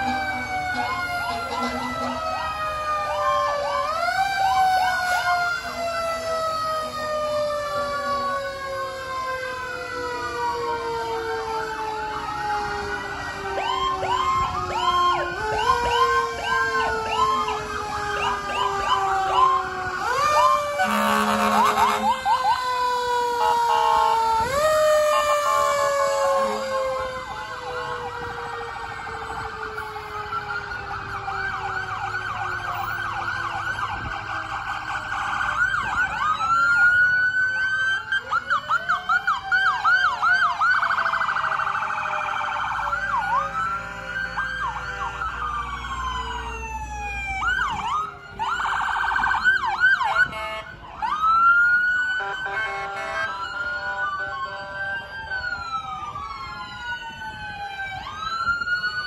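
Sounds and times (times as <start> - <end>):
emergency vehicle sirens wailing: 0.0 - 59.0
fast siren yelp: 0.0 - 59.0.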